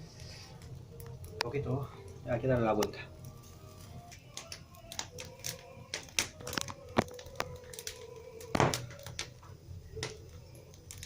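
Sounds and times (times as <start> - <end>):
embers crackling and popping: 0.0 - 11.0
juices dripping onto coals: 0.0 - 11.0.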